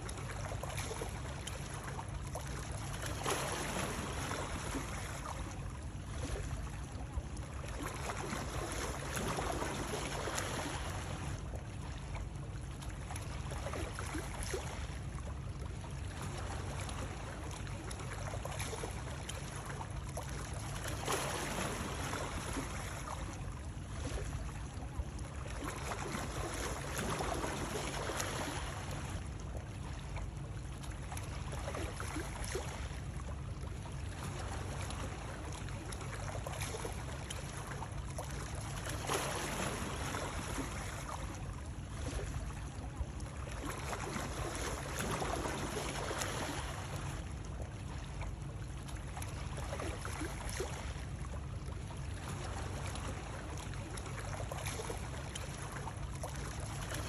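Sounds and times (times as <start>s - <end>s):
rushing water with low rumble: 0.0s - 57.0s.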